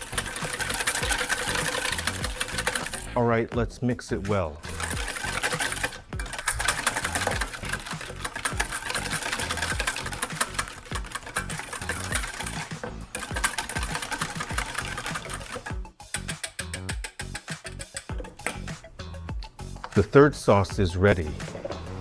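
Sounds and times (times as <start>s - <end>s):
utensil clicking against bowl: 0.0s - 3.2s, 4.5s - 20.0s.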